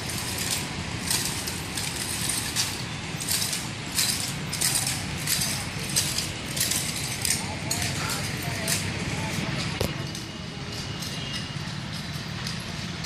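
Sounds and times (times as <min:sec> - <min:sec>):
nunchaku swishing through air: 0:00.0 - 0:13.0.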